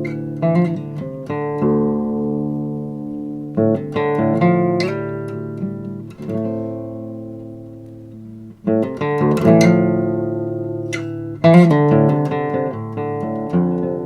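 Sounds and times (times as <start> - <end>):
guitar playing slow ringing chords: 0.0 - 14.0.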